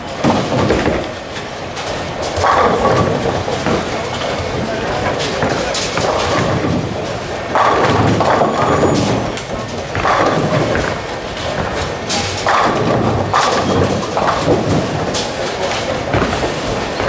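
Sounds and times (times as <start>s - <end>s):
bowling balls thudding and rolling: 0.0s - 17.0s
bowling pins crashing: 0.0s - 17.0s.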